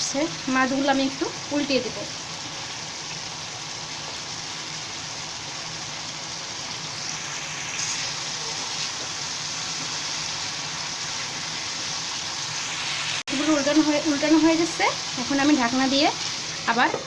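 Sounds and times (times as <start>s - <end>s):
fish curry sizzling in a pan: 0.0s - 17.0s.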